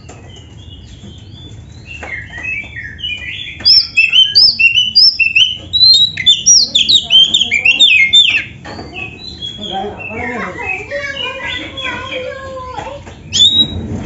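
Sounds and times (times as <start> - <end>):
bird singing whistled song: 0.6 - 12.2, 13.2 - 13.8.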